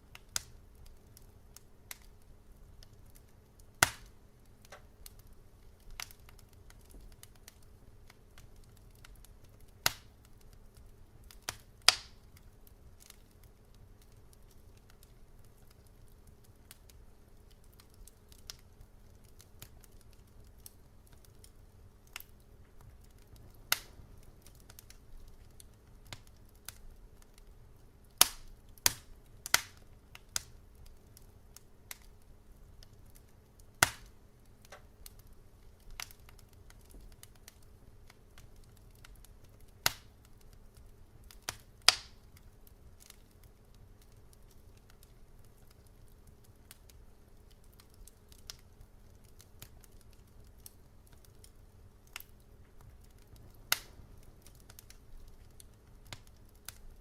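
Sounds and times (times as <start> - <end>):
low steady rumble: 0.0 - 47.8, 48.7 - 57.0
wood fire crackling: 0.0 - 57.0.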